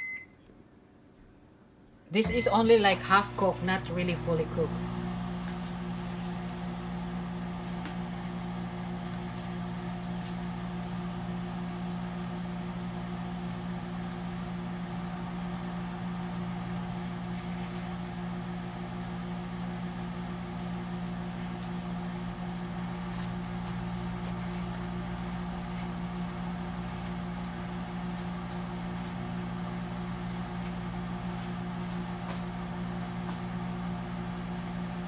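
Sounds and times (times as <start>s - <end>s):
microwave oven humming: 0.0s - 0.4s, 2.1s - 35.0s.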